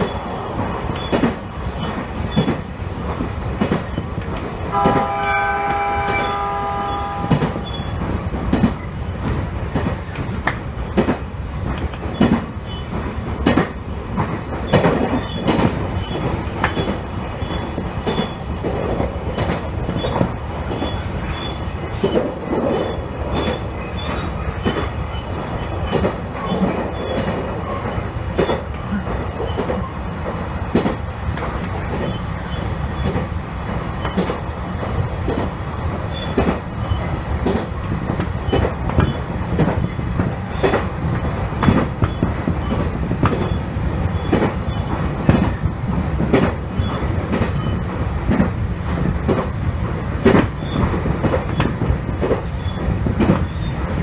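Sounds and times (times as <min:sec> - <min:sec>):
train rumble: 0:00.0 - 0:54.0
wheels clicking over rail joints: 0:00.6 - 0:54.0.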